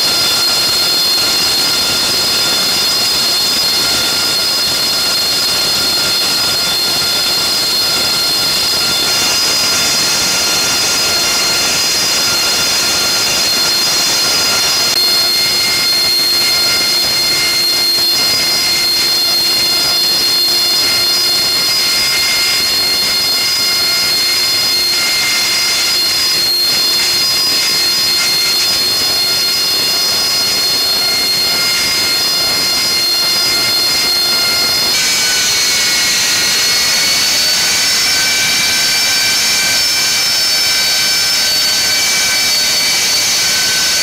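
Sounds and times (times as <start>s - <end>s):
jet engine roaring with whine: 0.0s - 44.0s.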